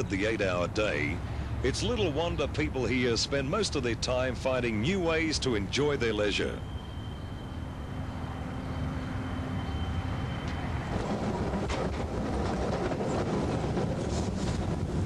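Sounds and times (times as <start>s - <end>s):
outdoor hum with high tone: 0.0s - 15.0s
tram rumbling past on rails: 0.0s - 15.0s.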